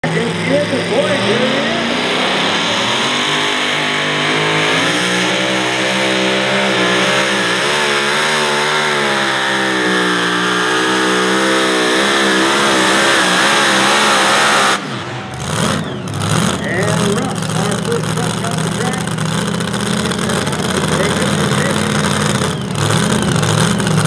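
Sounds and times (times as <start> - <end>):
engine running flat out: 0.0 - 24.0.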